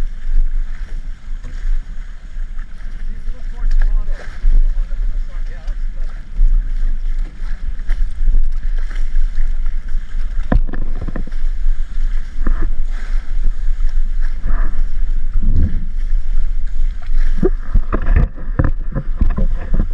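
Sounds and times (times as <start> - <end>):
water rushing past hulls: 0.0 - 19.9
wind buffeting microphone: 0.0 - 19.9.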